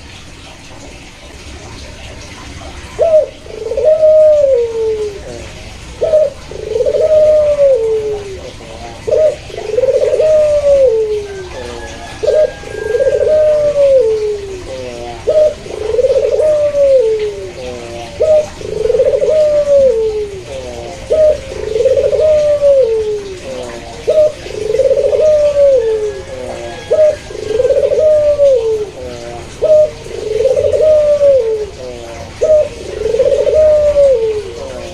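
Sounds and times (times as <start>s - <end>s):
dove cooing: 0.0s - 34.9s
faint second dove cooing: 2.9s - 34.9s.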